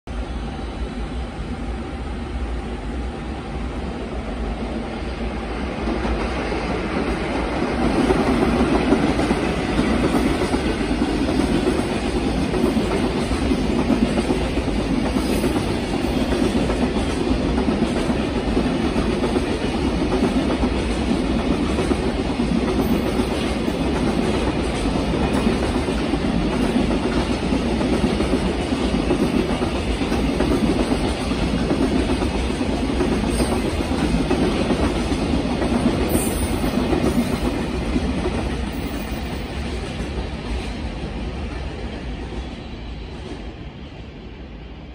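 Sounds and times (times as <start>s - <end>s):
freight train wheels clattering: 5.9s - 42.0s.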